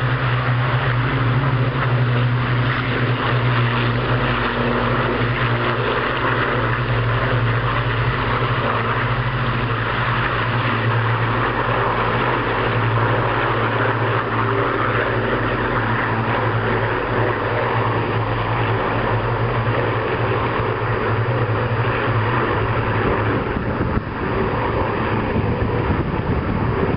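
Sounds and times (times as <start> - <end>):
aircraft piston engines droning: 0.0 - 26.9.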